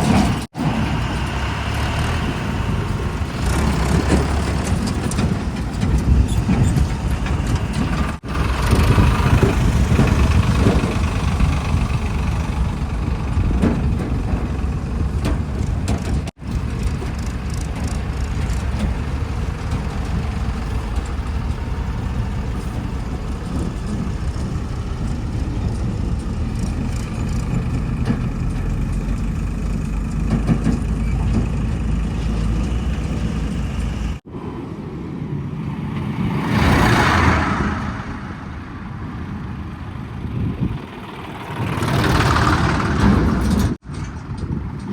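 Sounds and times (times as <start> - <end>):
heavy diesel engine running: 0.0 - 34.3, 36.2 - 44.8
engine rushing noise: 0.0 - 44.9.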